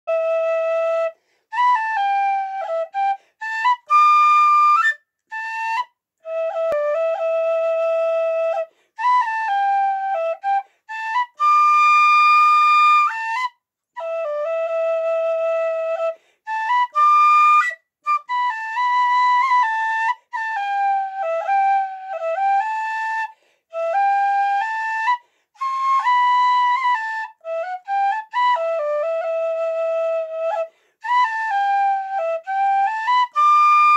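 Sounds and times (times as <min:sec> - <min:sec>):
tin whistle melody: 0:00.1 - 0:33.9.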